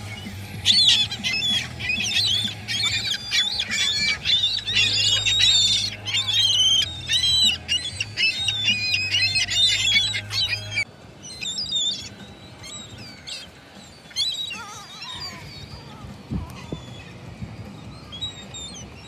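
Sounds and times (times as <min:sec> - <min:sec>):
gulls squawking: 0:00.0 - 0:19.0.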